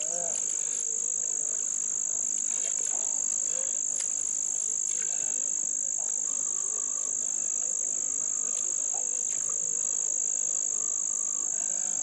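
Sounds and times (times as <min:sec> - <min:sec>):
faint voices: 0:00.0 - 0:12.0
high-pitched insect chorus: 0:00.0 - 0:12.0.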